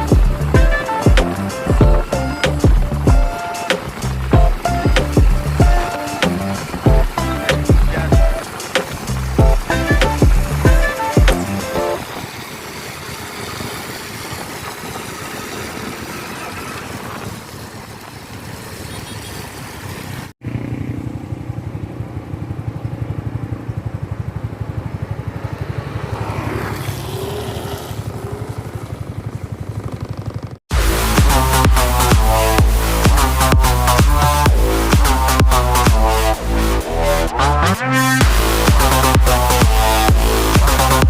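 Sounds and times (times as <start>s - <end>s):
motorcycle engine running: 0.0s - 37.4s, 38.1s - 41.0s.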